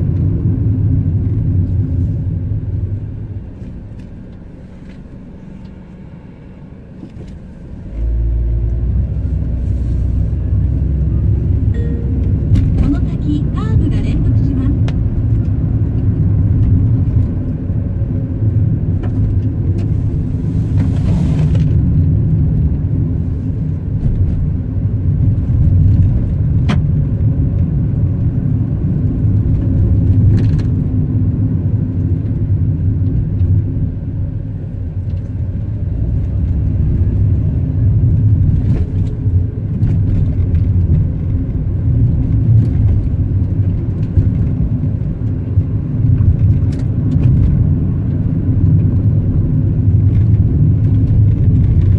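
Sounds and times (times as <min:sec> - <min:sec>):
car engine and tyres rumbling: 0:00.0 - 0:51.9.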